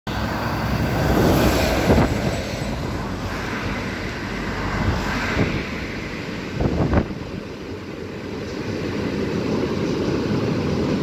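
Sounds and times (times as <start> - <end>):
distant freight train rumble: 0.1 - 11.0
wind buffeting microphone: 0.1 - 11.0.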